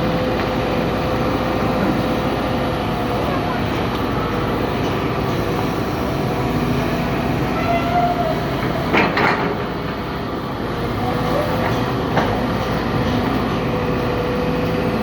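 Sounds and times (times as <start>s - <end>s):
excavator engine rumble: 0.0s - 15.0s.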